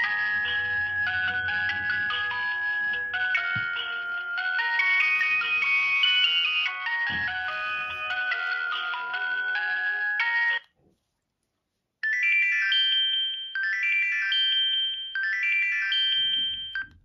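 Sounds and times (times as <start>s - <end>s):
phone ringtone melody: 0.0s - 10.7s, 12.0s - 17.0s.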